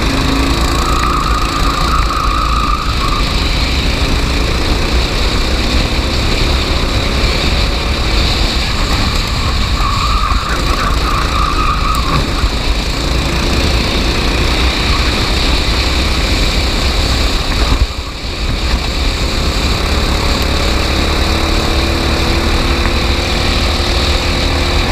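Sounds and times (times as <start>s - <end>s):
dense rushing noise: 0.0s - 24.9s
kart engine running: 0.0s - 24.9s.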